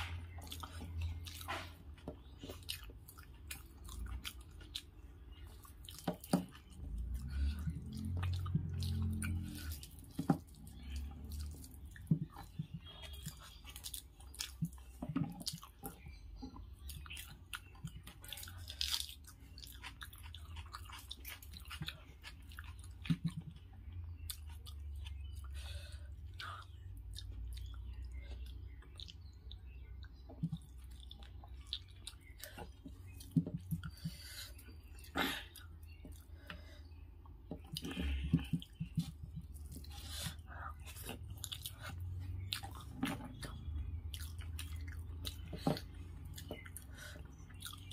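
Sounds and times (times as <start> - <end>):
person chewing: 0.0 - 47.9.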